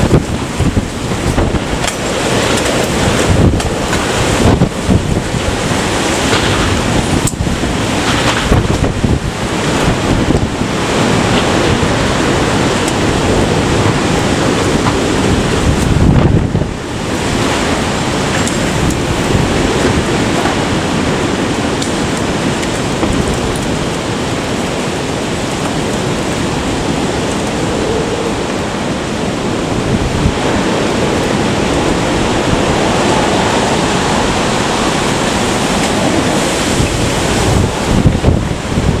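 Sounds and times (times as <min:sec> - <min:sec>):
gale wind buffeting microphone: 0:00.0 - 0:39.0.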